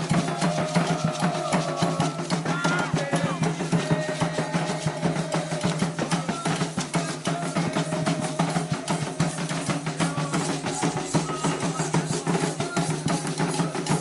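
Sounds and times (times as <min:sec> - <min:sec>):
hand drums playing fast rhythm: 0:00.0 - 0:14.0.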